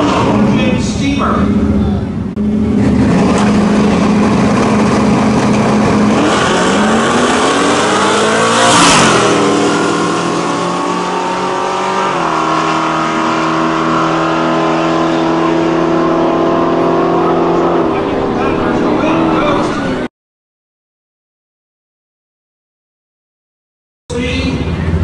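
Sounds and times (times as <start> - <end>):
truck engines revving: 0.0 - 20.1, 24.1 - 25.0
truck passing by: 0.0 - 20.1.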